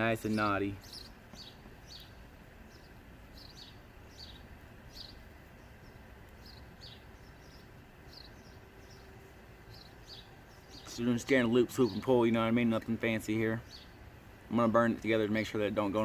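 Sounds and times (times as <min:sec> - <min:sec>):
faint steady low hum: 0:00.0 - 0:16.0
small birds chirping: 0:00.0 - 0:16.0.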